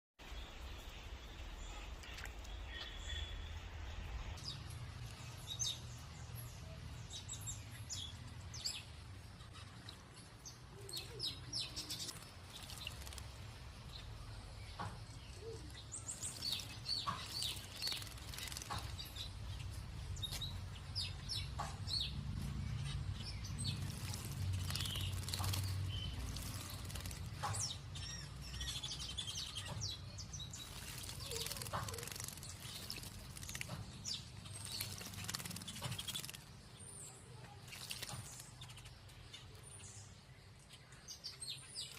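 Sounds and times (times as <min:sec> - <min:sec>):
bird chirping: 0:00.2 - 0:41.9.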